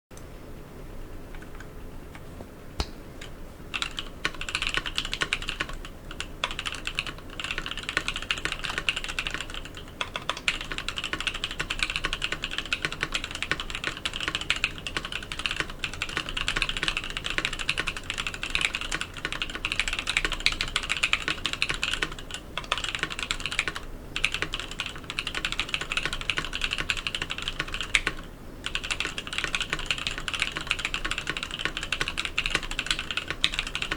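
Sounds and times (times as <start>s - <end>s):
mechanical keyboard typing: 3.2s - 33.9s.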